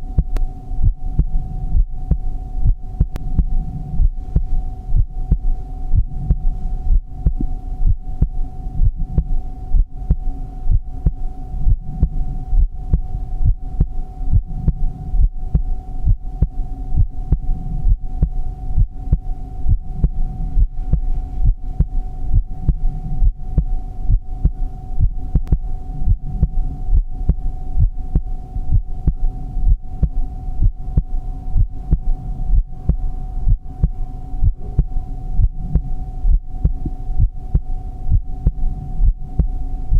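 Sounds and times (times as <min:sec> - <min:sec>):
constant hum: 0:00.0 - 0:39.9
heartbeat thumps: 0:00.0 - 0:39.9.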